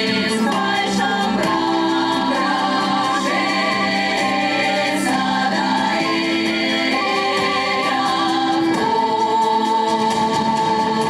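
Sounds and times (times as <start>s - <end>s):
women's choir singing folk song: 0.0s - 11.0s.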